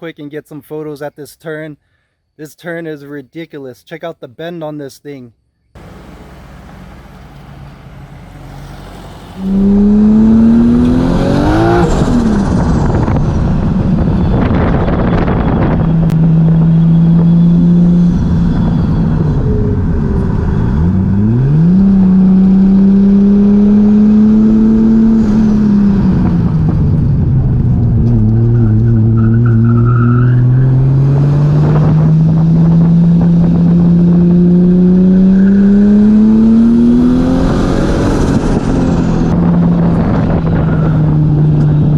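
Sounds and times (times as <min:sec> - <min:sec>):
turbocharged car engine revving: 0:05.8 - 0:41.9.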